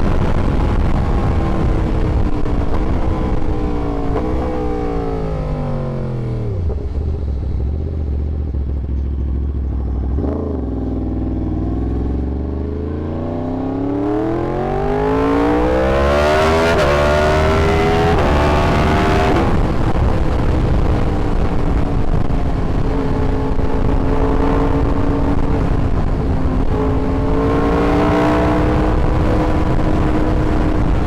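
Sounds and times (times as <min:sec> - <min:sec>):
motorcycle engine revving: 0:00.0 - 0:31.0
wind noise: 0:00.0 - 0:31.0.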